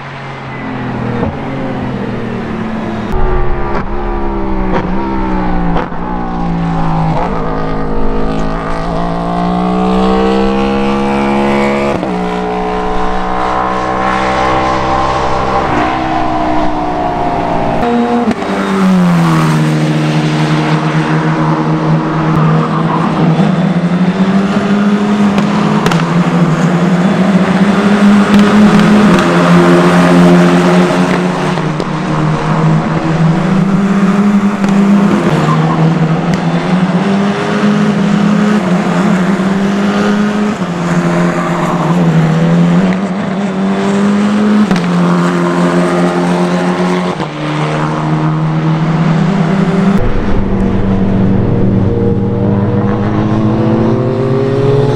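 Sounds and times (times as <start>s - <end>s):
race car engines passing: 0.0s - 54.9s.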